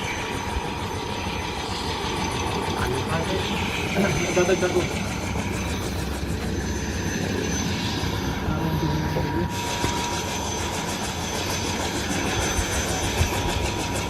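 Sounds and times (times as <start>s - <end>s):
helicopter engine whine: 0.0s - 14.0s
helicopter rotor chop: 0.0s - 14.0s.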